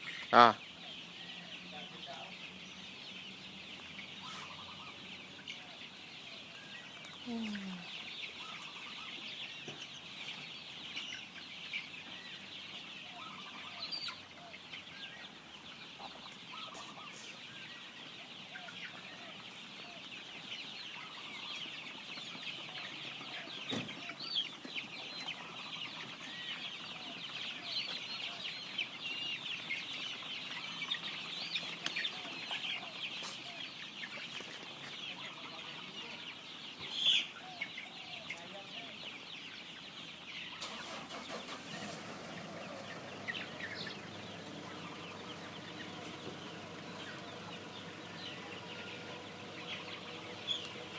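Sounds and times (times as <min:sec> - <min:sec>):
chickens clucking: 0:00.0 - 0:50.9
high chirping chatter: 0:00.0 - 0:50.9.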